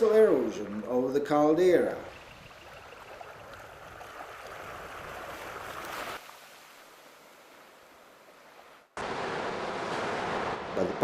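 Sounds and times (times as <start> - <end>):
sea surf washing on shore: 0.0 - 11.0.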